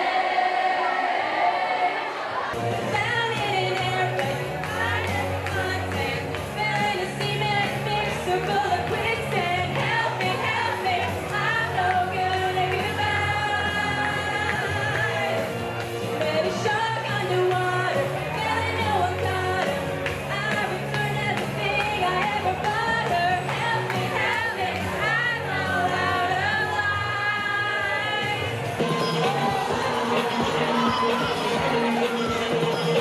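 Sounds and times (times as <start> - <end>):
girl singing karaoke: 2.6 - 15.4, 16.2 - 33.0
amplified backing track: 2.6 - 33.0.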